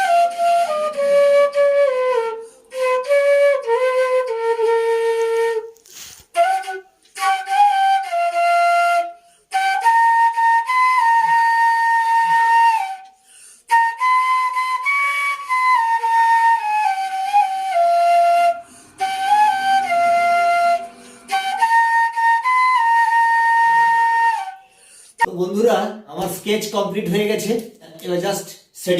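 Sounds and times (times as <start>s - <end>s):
solo flute melody: 0.0s - 25.4s.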